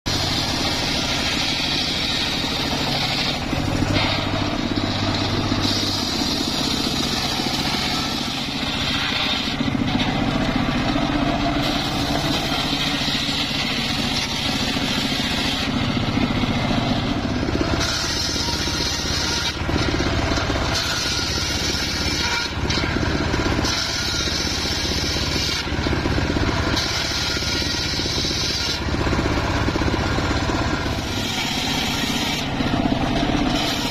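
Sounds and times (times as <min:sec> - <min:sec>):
engine running: 0:00.1 - 0:33.9
saw blade screaming through wood: 0:00.1 - 0:33.9.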